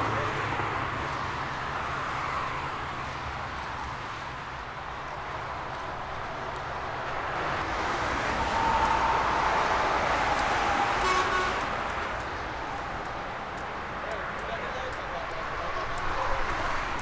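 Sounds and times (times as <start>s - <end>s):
jet engines on landing: 0.0s - 15.0s.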